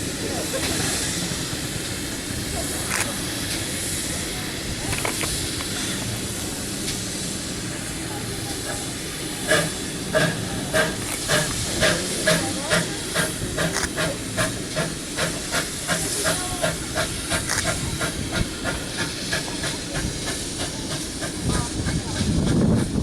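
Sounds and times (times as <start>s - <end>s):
steam hissing: 0.0s - 23.0s
steam locomotive chuffing: 0.0s - 23.0s.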